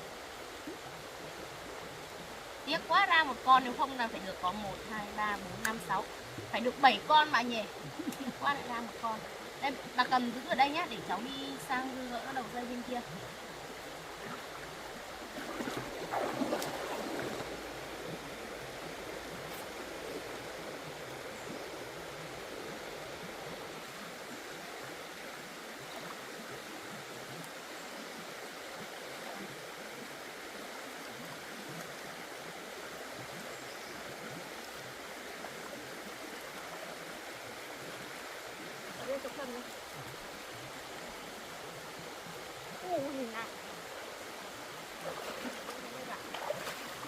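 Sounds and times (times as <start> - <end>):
stream water flowing: 0.0 - 47.0.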